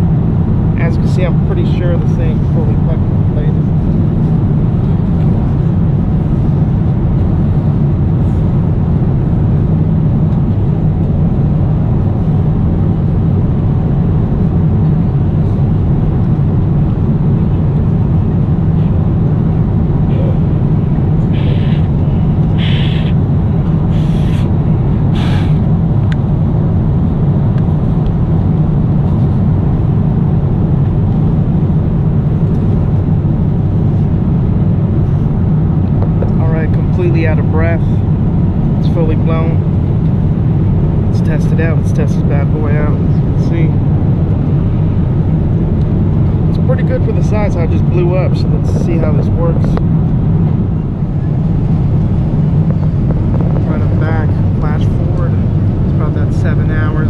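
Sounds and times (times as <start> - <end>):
jet airliner cabin drone: 0.0 - 57.0.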